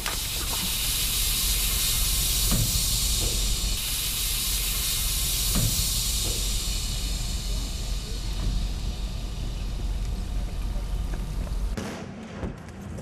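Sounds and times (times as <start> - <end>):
fire roaring and hissing: 0.0 - 11.8.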